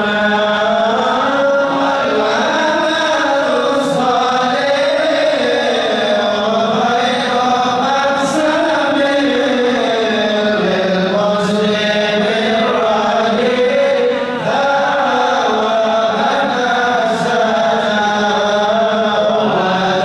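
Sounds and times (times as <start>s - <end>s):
lead voice through a microphone: 0.0s - 20.0s
men chanting: 0.0s - 20.0s.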